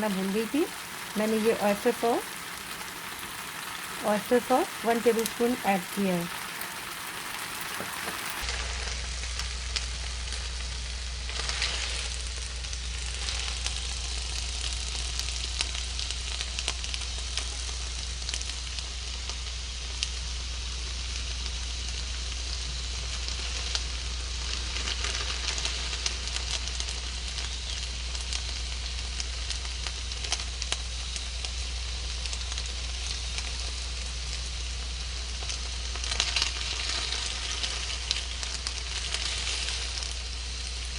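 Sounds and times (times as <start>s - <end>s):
noodles sizzling in a pan: 0.0s - 40.9s.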